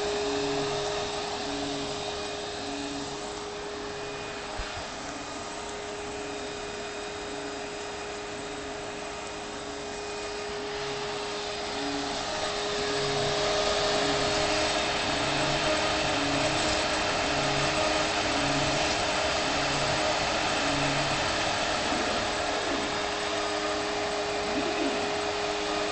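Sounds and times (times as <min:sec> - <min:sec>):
spindle motor whirring with hiss: 0:00.0 - 0:25.9.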